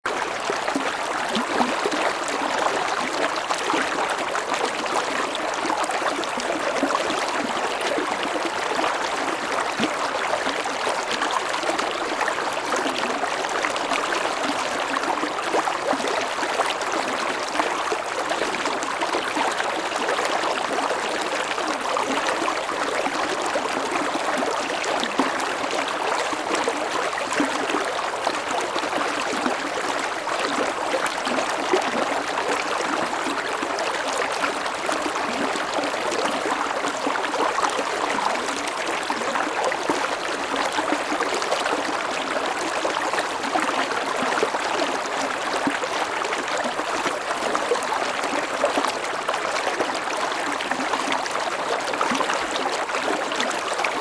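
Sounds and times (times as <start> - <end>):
stream flowing over rocks: 0.1 - 54.0.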